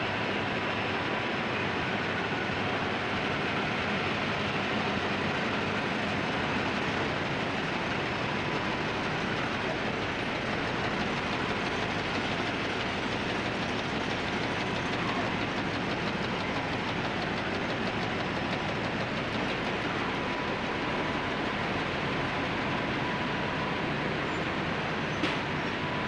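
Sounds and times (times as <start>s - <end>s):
textile mill machinery din: 2.2s - 26.0s.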